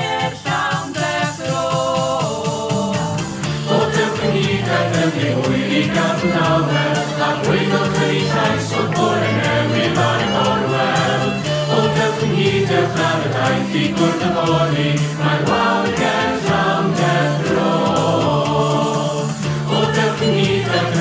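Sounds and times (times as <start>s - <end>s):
mixed choir singing: 0.0s - 21.0s
piano: 0.0s - 21.0s
violin: 3.4s - 21.0s.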